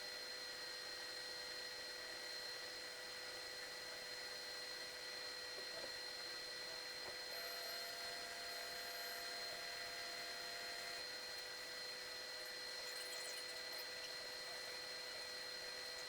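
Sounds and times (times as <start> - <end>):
faint steady whining tones: 0.0 - 16.0.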